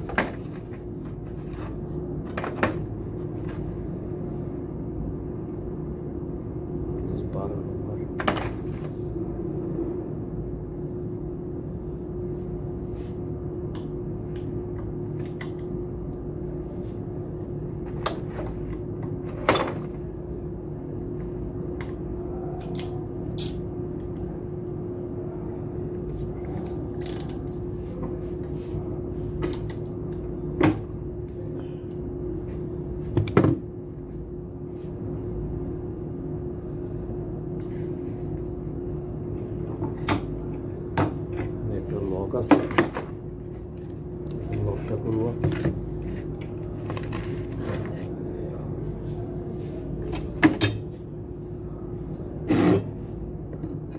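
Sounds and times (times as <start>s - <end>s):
steady hum: 0.0s - 53.9s.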